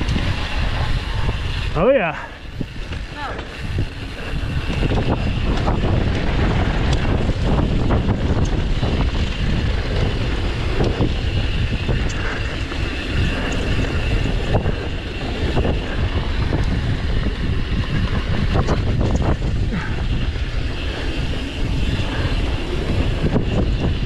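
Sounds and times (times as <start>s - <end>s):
bike rattling clicks and knocks: 0.0s - 24.0s
mountain bike rolling on dirt: 0.0s - 24.0s
wind buffeting microphone: 0.0s - 24.0s.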